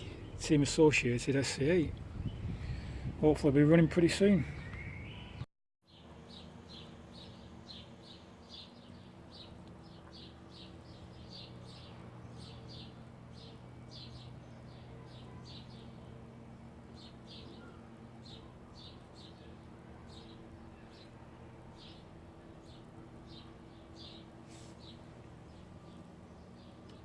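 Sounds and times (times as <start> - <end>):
bird chirping: 4.4 - 21.2, 21.8 - 27.0.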